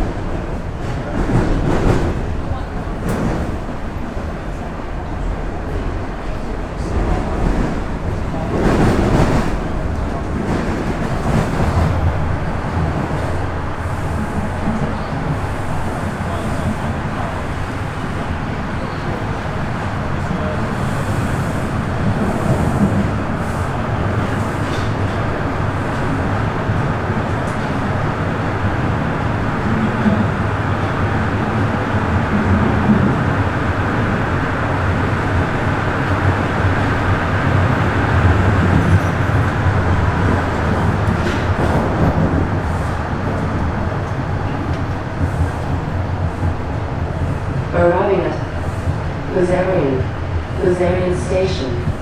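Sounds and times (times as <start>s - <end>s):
subway train running rumble: 0.0s - 52.0s.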